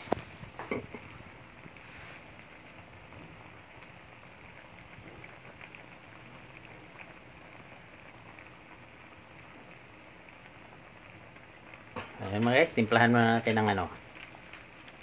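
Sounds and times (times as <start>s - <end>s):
soup simmering and bubbling: 0.0s - 15.0s.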